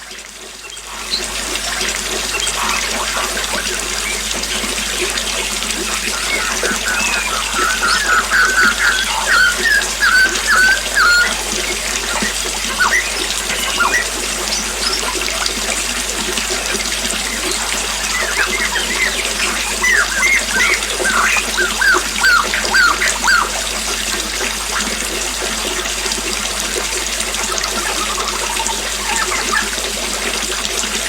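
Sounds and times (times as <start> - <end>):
small waterfall splashing: 0.0 - 31.0
songbirds chirping: 0.6 - 31.0.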